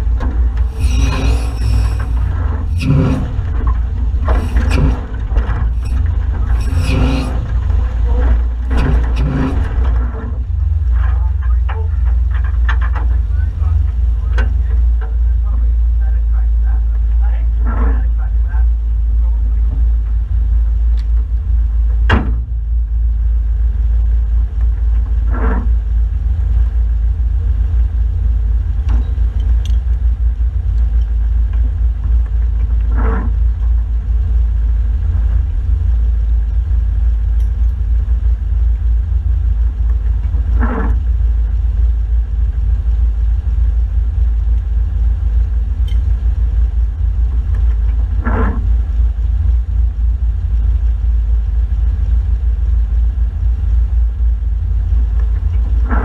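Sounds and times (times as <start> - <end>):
engine idling rumble: 0.0 - 56.0.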